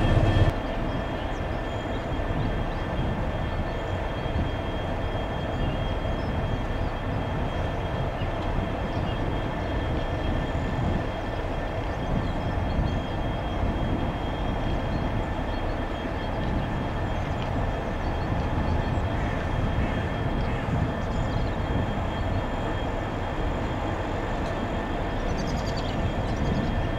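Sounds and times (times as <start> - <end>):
locomotive engine hum: 0.0 - 26.9.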